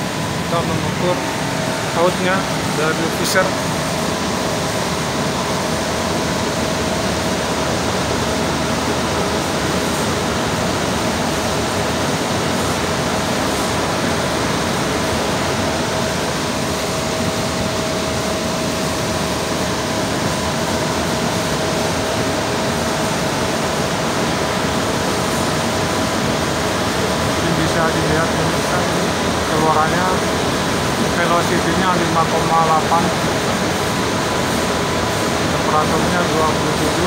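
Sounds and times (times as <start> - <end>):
air conditioner fan running: 0.0 - 37.0.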